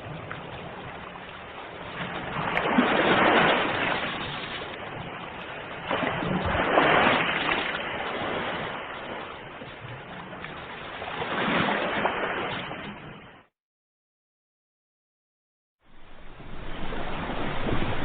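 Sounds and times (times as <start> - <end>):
ocean waves breaking: 0.0 - 13.5, 15.9 - 18.0.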